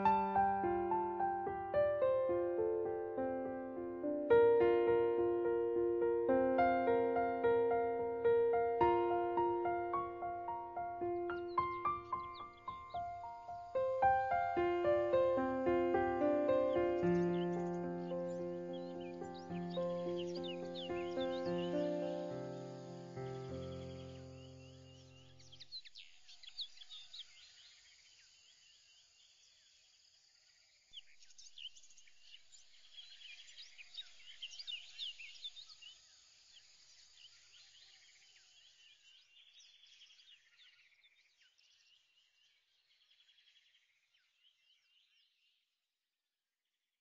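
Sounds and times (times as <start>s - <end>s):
chorus of birds chirping: 0.0s - 2.8s, 4.0s - 28.6s, 31.0s - 45.5s.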